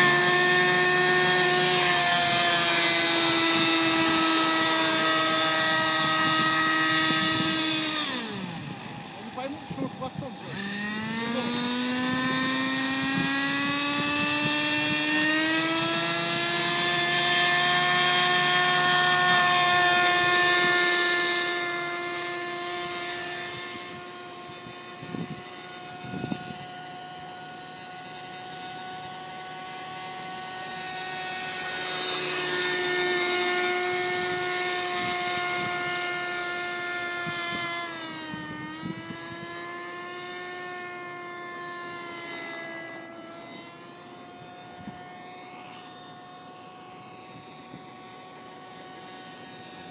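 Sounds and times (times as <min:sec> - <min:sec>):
model helicopter rotor whine: 0:00.0 - 0:49.9.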